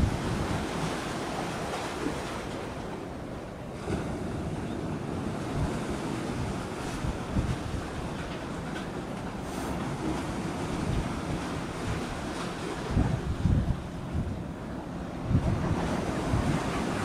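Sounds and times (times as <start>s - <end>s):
hiss of wind and sea: 0.0s - 17.0s
wind buffeting microphone: 0.0s - 17.0s.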